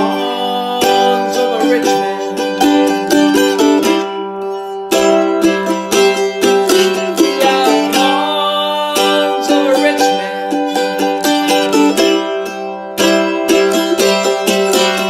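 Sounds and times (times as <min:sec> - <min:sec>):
acoustic folk plucked strings: 0:00.0 - 0:15.0.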